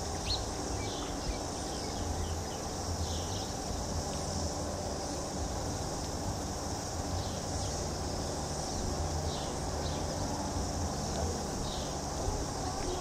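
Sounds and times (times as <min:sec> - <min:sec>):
high-pitched insect hiss: 0:00.0 - 0:13.0.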